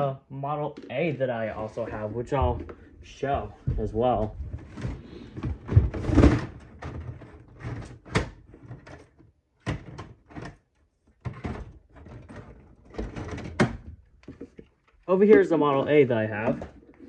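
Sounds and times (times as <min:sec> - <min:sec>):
objects knocking and clunking: 0:00.7 - 0:17.0.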